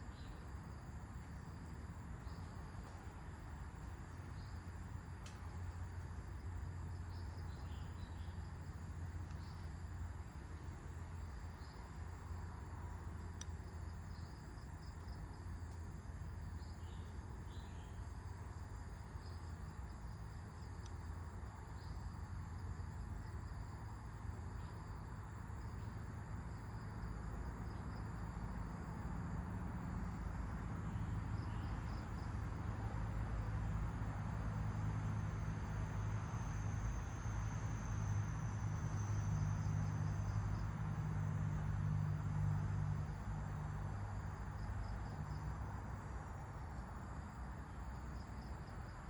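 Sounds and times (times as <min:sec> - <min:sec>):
faint high-pitched hum: 0:00.0 - 0:49.0.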